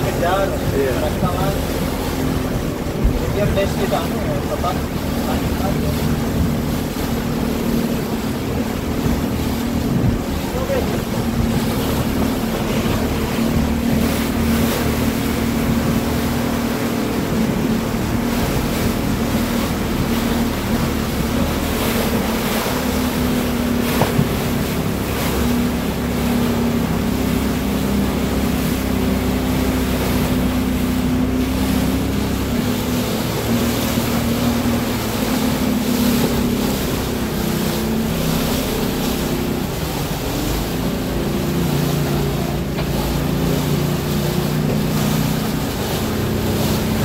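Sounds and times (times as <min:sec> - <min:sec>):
wind buffeting microphone: 0:00.0 - 0:38.1
boat engine running: 0:00.0 - 0:47.0
water rushing past: 0:00.0 - 0:47.0.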